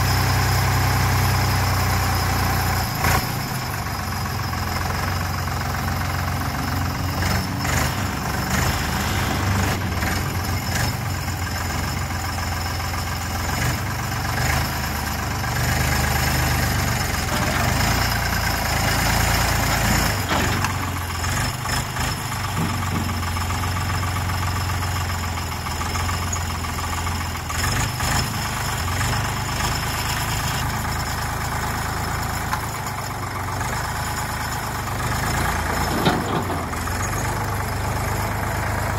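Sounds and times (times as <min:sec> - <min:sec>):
diesel tractor engine idling: 0:00.0 - 0:38.9.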